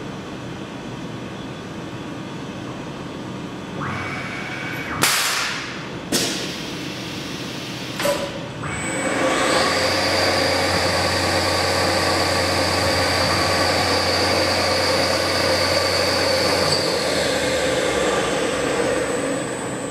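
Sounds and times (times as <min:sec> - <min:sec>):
spindle whine and hum: 0:00.0 - 0:19.9.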